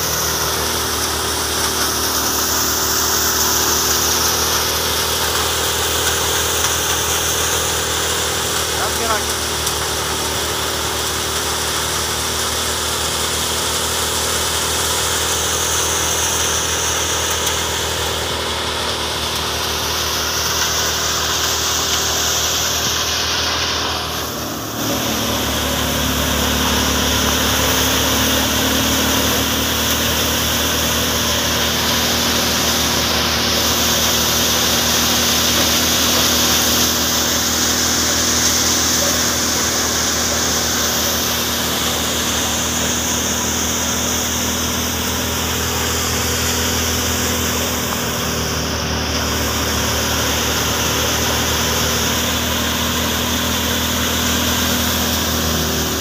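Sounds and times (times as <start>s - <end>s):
thresher machine drone: 0.0s - 56.0s.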